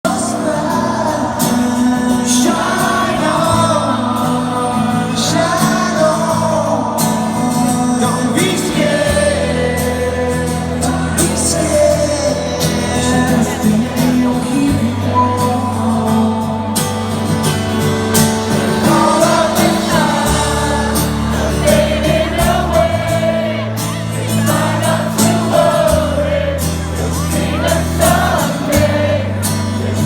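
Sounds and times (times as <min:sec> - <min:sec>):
person singing: 0:00.1 - 0:30.0
rock band playing a ballad: 0:00.1 - 0:30.0.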